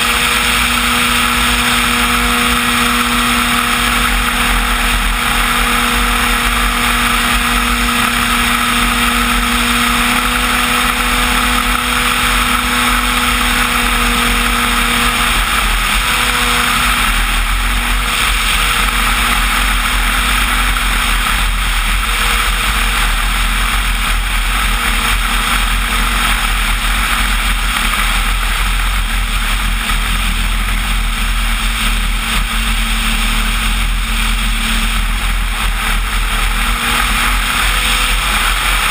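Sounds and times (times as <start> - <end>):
electric motor and propeller hum: 0.0 - 38.9
rushing airflow: 0.0 - 38.9.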